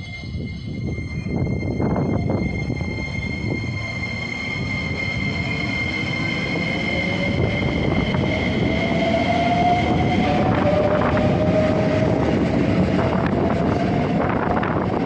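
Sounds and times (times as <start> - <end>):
electric train motor whine: 0.0 - 15.0.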